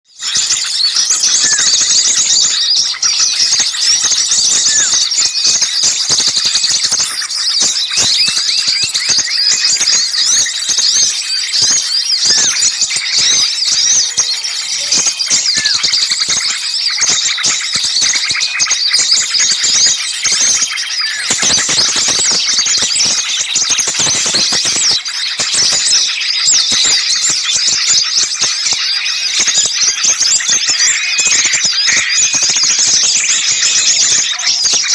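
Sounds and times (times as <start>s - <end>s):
chorus of small birds chirping: 0.0s - 34.9s.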